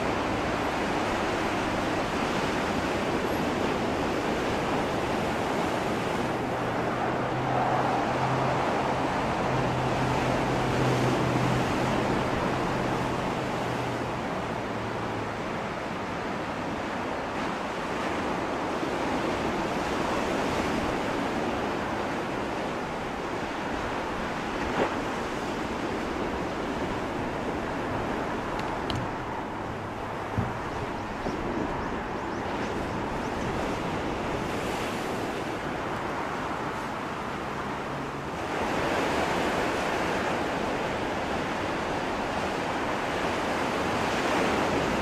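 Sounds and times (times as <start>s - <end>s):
sea waves breaking on shore: 0.0s - 45.0s.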